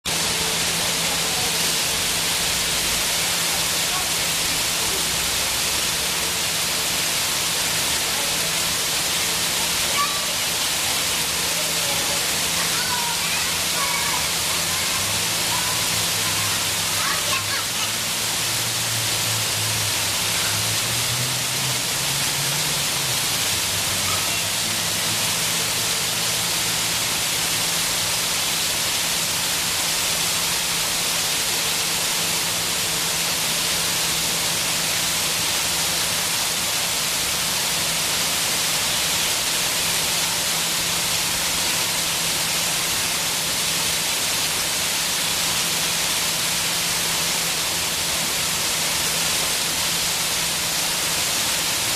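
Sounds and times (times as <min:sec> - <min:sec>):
fountain water splashing on pavement: 0:00.1 - 0:51.9.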